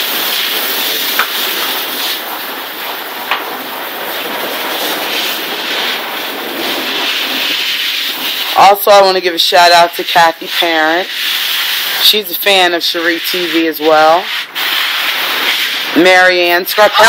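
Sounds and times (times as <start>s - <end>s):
hose spraying water: 0.0s - 17.0s.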